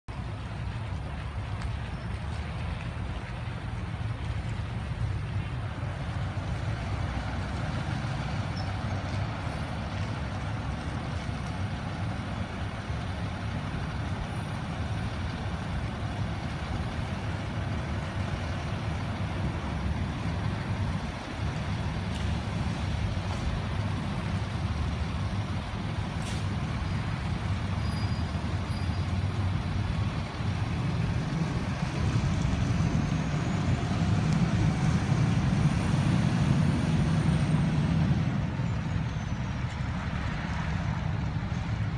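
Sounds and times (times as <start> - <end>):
fire engine diesel engine rumble: 0.0 - 41.9.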